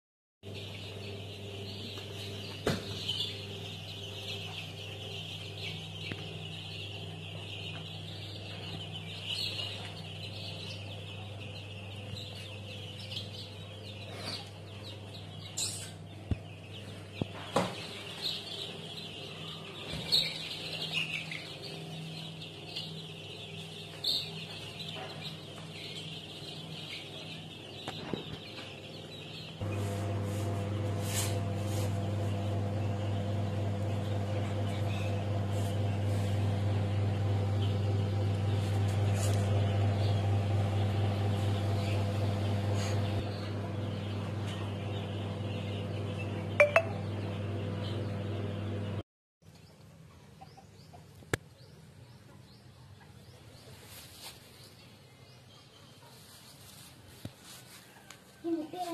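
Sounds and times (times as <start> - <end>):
chicks peeping: 0.4 - 58.9
incubator fan humming: 0.5 - 49.0
low electrical hum: 0.5 - 53.7.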